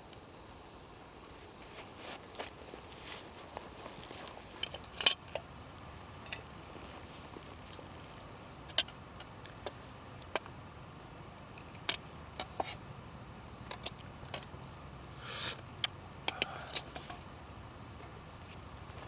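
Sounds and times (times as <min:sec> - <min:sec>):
low steady background noise: 0:00.0 - 0:19.0
rustle: 0:00.0 - 0:19.0.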